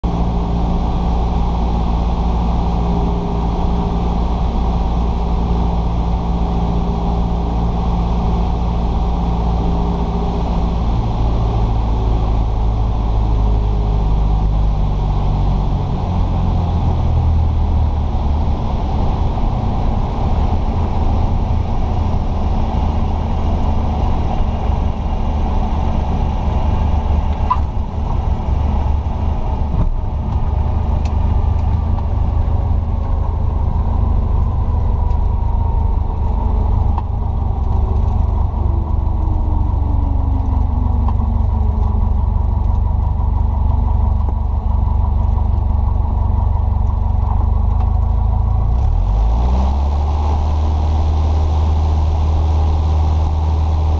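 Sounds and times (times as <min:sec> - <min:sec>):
aircraft engine drone in cabin: 0:00.0 - 0:53.9.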